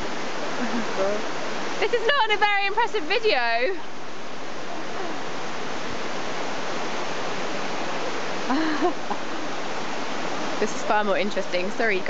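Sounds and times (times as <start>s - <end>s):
waterfall pouring over rock: 0.0s - 12.0s.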